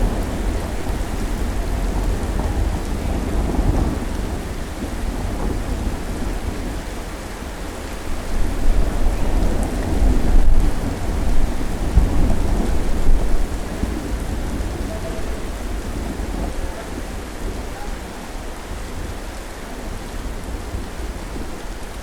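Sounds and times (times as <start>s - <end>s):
rolling thunder rumble: 0.0s - 22.0s
steady rain: 0.0s - 22.0s.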